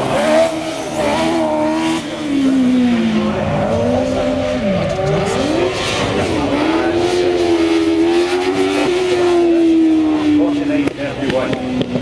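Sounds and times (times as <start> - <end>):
racing car engine at speed: 0.0 - 12.0.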